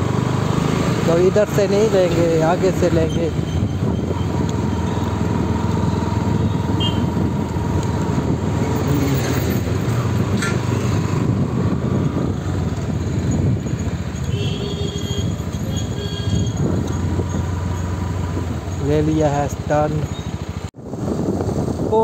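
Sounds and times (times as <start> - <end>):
wind noise on microphone: 2.9 - 19.4, 20.0 - 22.0
motorcycle engine running: 3.0 - 21.8.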